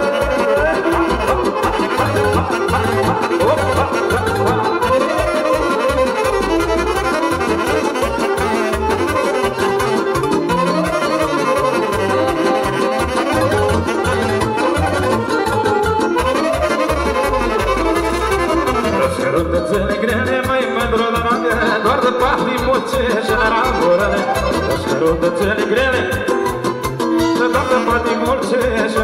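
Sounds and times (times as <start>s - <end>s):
instrumental folk band: 0.0s - 29.0s.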